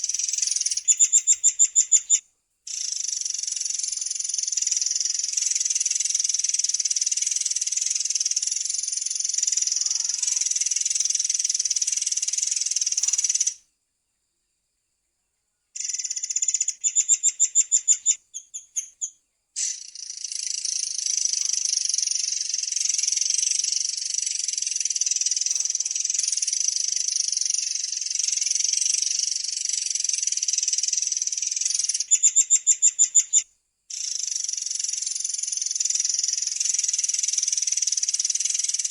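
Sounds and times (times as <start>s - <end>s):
songbird trilling: 0.0s - 13.6s, 15.8s - 38.9s.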